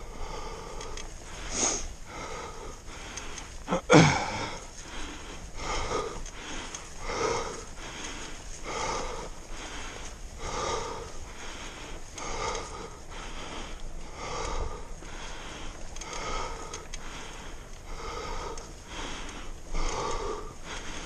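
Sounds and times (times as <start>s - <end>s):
person breathing hard and wheezing: 0.0s - 21.0s.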